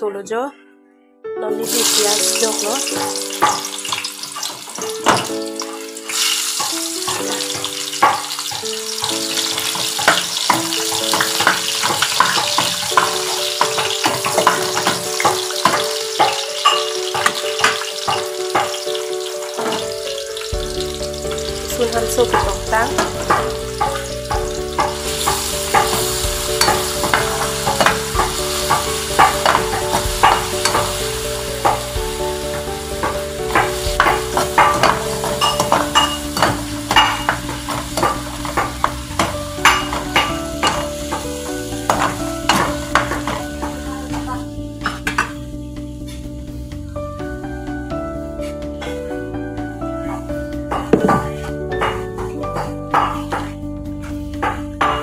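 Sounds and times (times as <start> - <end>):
meat and onions sizzling in oil: 1.6 - 49.8.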